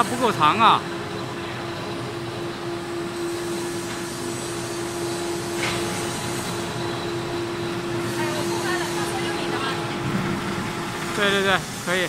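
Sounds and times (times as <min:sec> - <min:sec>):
crane motor hum: 0:00.0 - 0:12.0.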